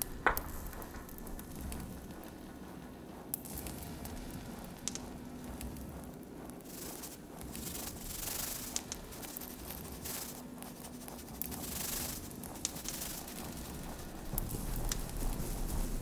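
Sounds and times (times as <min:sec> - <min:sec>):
electronic hiss and crackle: 0:00.0 - 0:16.0
low steady hum: 0:00.0 - 0:16.0.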